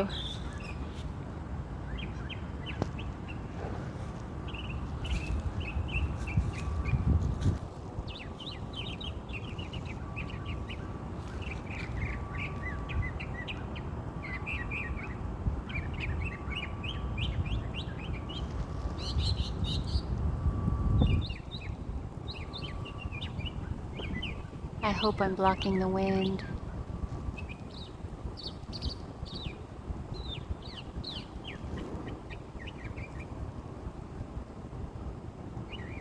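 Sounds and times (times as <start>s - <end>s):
songbird chirping: 0.0s - 1.1s, 1.8s - 33.4s
wind rumbling on microphone: 0.0s - 36.0s.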